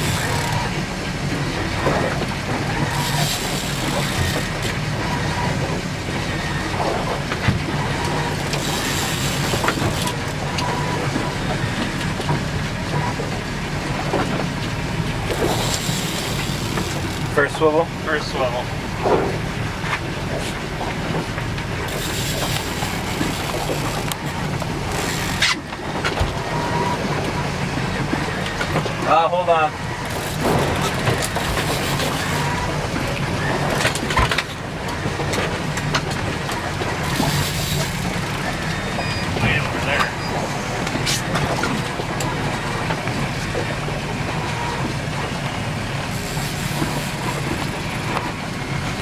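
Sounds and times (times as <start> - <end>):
boat engine running: 0.0 - 49.0
water noise: 0.0 - 49.0.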